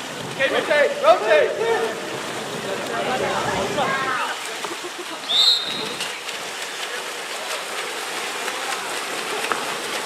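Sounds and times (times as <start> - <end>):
swimmers splashing water: 0.0 - 10.0.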